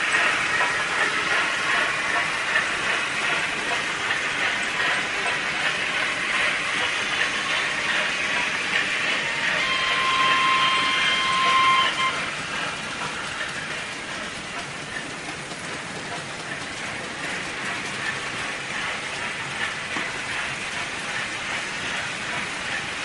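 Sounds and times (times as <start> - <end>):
model train wheels clattering: 0.0 - 23.0.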